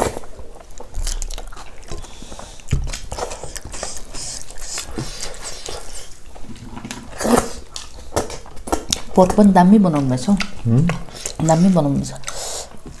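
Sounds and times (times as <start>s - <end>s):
chewing with lip smacks: 0.0s - 13.0s.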